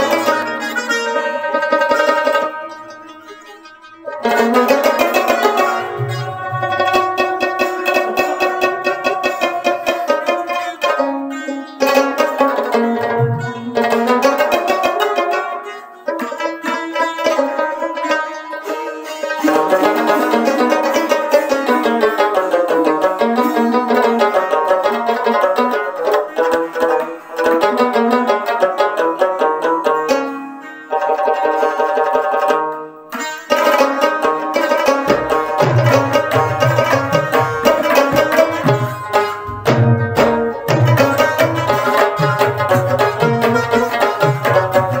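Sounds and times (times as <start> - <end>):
rabab plucked melody: 0.0 - 45.0
sitar plucked runs: 0.0 - 45.0
tabla drums: 0.0 - 45.0.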